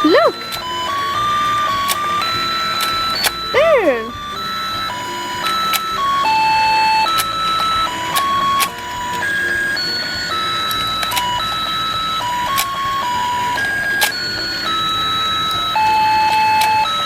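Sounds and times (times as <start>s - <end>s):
electronic toy melody beeping: 0.0s - 17.0s.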